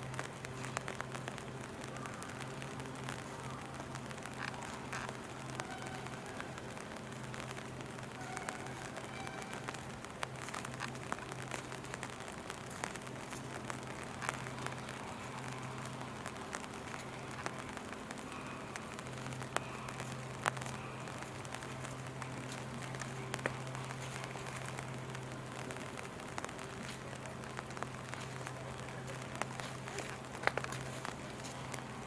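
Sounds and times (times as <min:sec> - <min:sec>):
low steady hum: 0:00.0 - 0:32.0
steady rain: 0:00.0 - 0:32.0.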